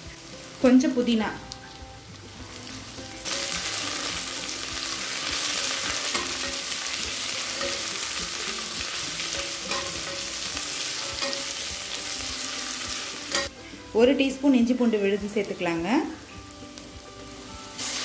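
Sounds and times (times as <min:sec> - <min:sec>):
vegetables sizzling in hot fat: 0:00.0 - 0:18.0.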